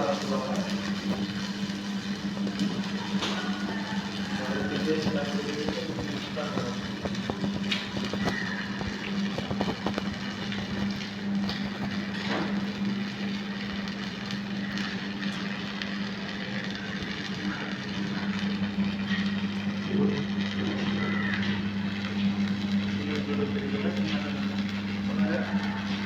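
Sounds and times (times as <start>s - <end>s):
welding hum with crackling: 0.0s - 26.0s.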